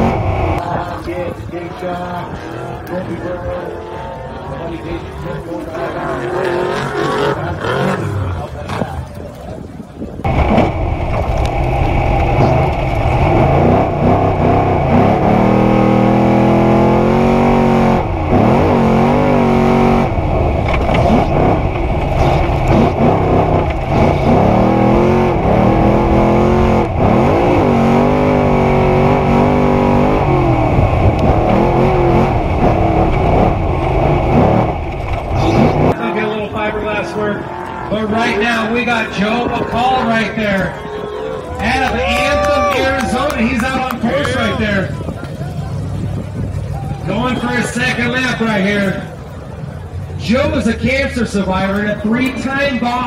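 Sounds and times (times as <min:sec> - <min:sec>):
truck engine revving: 0:00.0 - 0:01.3, 0:02.3 - 0:09.0, 0:10.2 - 0:53.0.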